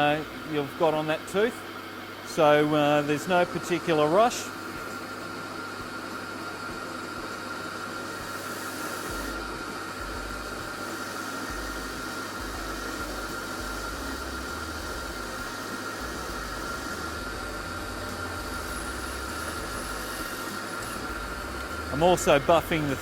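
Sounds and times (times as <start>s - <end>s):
drill press grinder whining: 0.0s - 23.0s.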